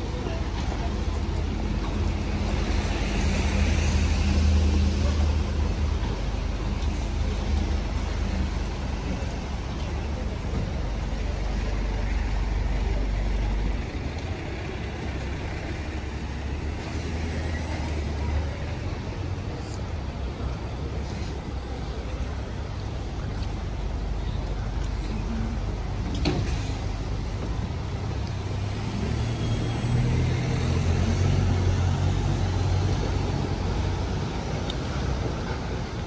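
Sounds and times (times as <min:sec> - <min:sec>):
low steady engine hum: 0:00.0 - 0:36.0
vehicles passing: 0:00.0 - 0:36.0.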